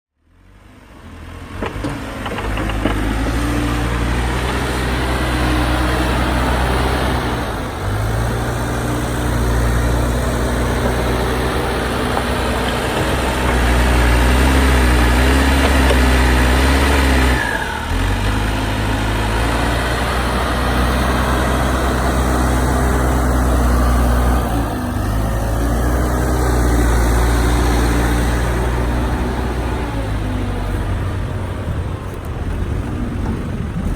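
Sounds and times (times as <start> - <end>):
tractor diesel engine running: 0.6 - 33.9.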